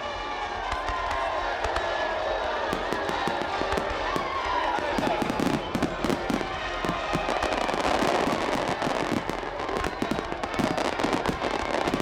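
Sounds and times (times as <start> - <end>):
fireworks bangs and crackles: 0.1 - 12.0.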